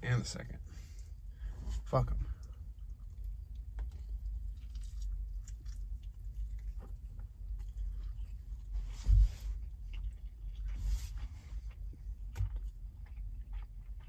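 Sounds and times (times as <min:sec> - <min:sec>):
steady low rumble: 0:00.0 - 0:14.0
person chewing food: 0:00.9 - 0:14.0.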